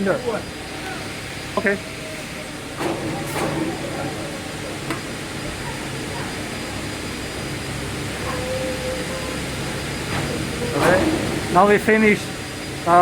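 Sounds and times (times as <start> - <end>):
workshop machinery humming: 0.0 - 13.0
compressed air hissing: 0.4 - 13.0.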